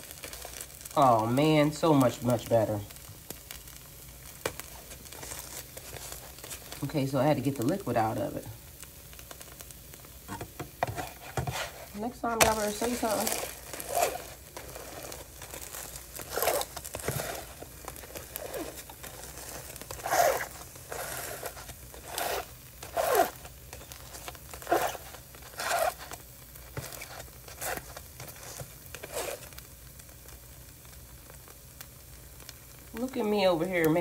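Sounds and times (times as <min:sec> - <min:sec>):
wrap crinkling in hot pan: 0:00.0 - 0:34.0.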